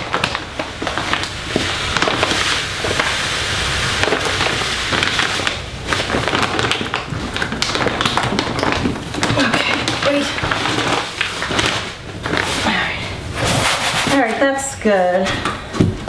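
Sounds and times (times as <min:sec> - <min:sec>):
bag crinkling and rustling: 0:00.0 - 0:14.4
cat litter granules pouring: 0:00.0 - 0:14.8.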